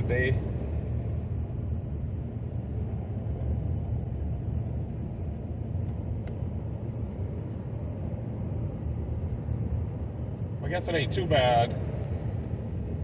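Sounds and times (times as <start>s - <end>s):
pickup engine rumble from inside: 0.0s - 13.0s.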